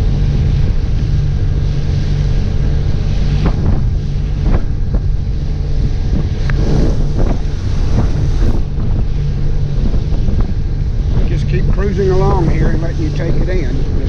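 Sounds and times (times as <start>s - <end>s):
motorboat engine humming: 0.0s - 14.0s
wind noise on microphone: 0.0s - 14.0s.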